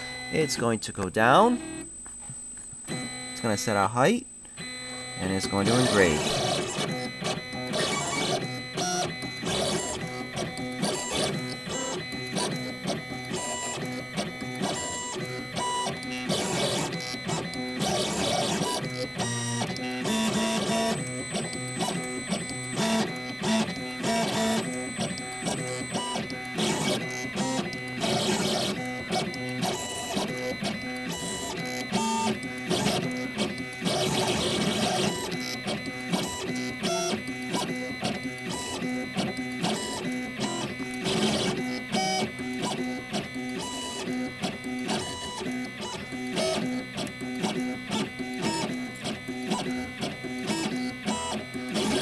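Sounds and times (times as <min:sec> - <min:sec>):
engraving machine motors whirring: 0:04.6 - 0:52.0.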